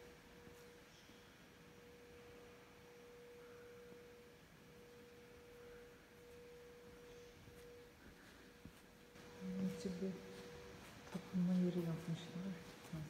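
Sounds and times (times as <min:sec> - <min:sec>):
faint steady pure tone: 0:00.0 - 0:13.0.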